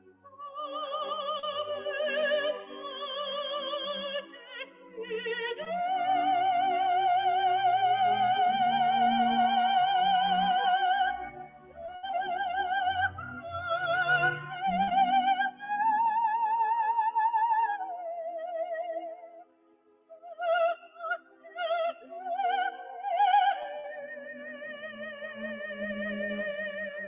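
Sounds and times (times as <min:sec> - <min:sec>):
operatic soprano singing: 0:00.0 - 0:19.5, 0:20.1 - 0:27.0.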